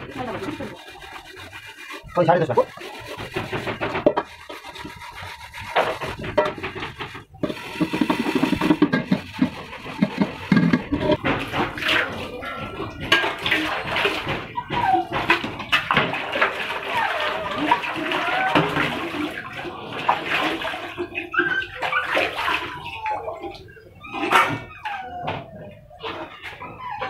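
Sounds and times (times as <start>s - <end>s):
scrubbing a metal pot: 0.0s - 25.2s
water sloshing in a steel basin: 0.0s - 27.0s.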